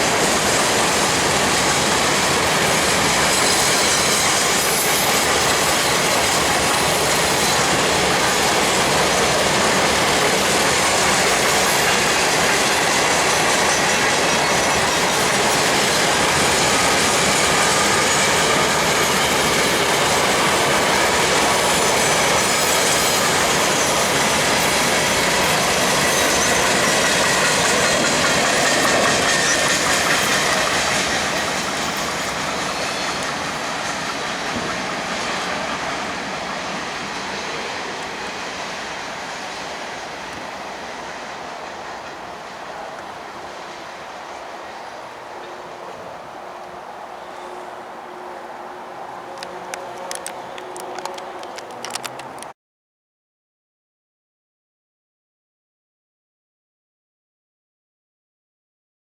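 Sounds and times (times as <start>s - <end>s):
steel wheels rolling on rail: 0.0s - 52.5s.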